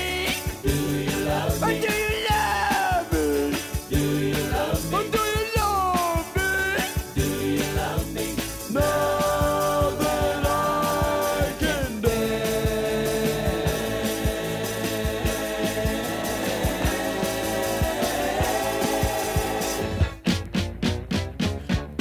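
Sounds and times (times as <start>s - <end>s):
soul-rock band music from vinyl: 0.0s - 22.0s.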